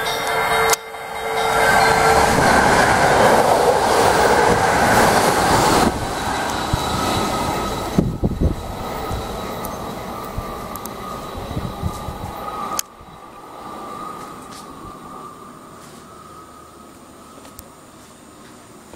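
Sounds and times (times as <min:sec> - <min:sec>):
steady tone: 0:00.0 - 0:18.0
train passing at high speed: 0:00.0 - 0:18.9.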